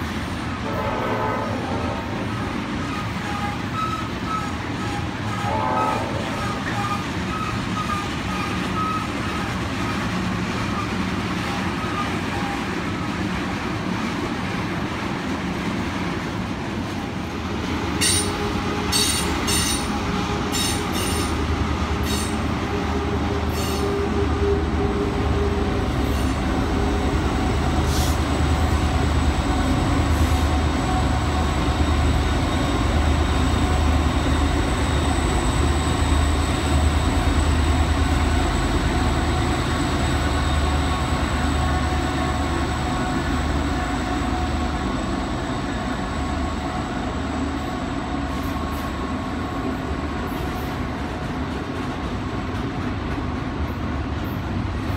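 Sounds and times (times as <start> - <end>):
diesel locomotives throbbing: 0.0 - 54.9
railcars rumbling: 0.0 - 54.9.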